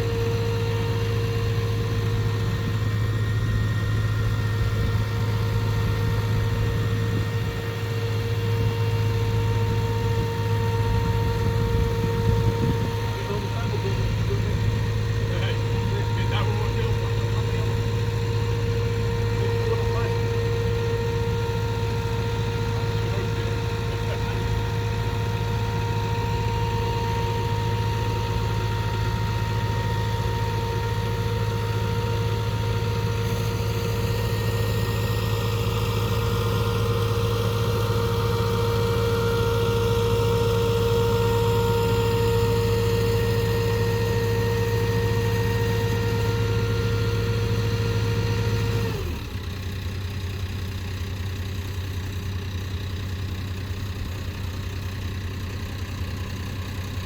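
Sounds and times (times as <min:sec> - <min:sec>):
boat engine droning: 0:00.0 - 0:51.4.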